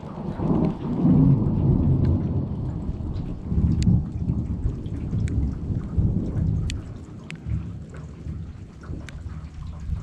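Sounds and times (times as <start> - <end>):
rain: 0.0 - 10.0
raindrop ticks: 0.0 - 10.0
thunder rumbling: 0.0 - 10.0.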